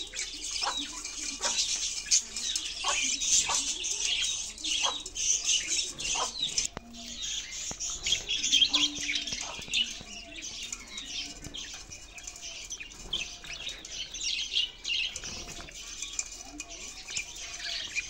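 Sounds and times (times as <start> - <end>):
budgerigars chirping: 0.0 - 18.0.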